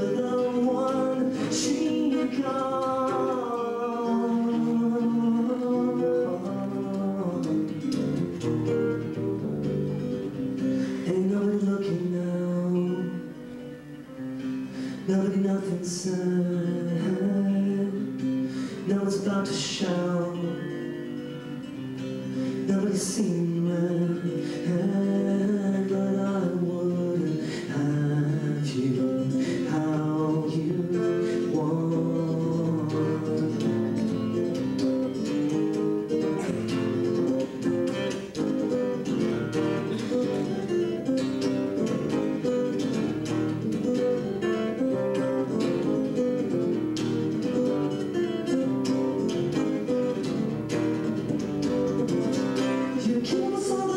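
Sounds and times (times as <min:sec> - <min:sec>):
acoustic guitar picked: 0:00.0 - 0:53.9.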